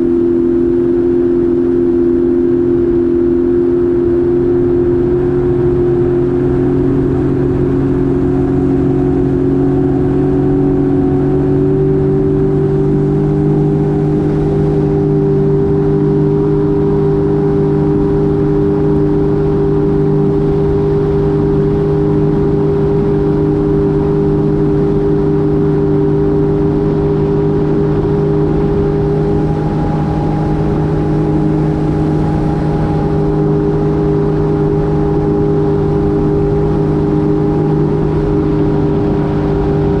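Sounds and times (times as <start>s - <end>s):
jet ski engine running: 0.0s - 40.0s.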